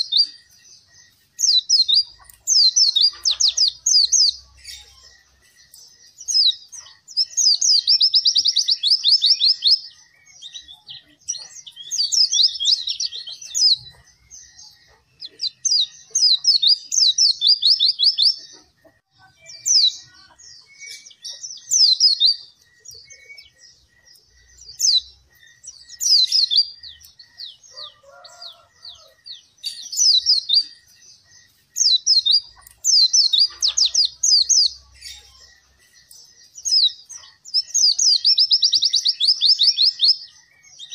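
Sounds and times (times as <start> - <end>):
bird singing trilled phrases: 0.0 - 40.9.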